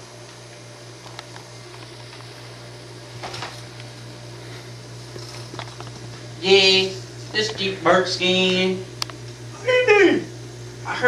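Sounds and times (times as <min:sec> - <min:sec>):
low room hum with hiss: 0:00.0 - 0:11.0.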